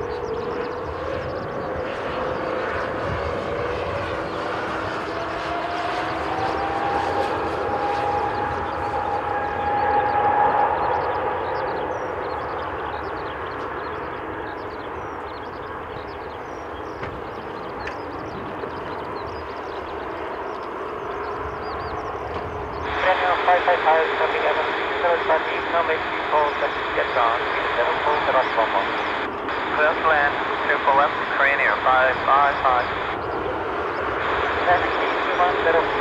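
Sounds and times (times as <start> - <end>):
jet engines roaring with whine: 0.0 - 36.0.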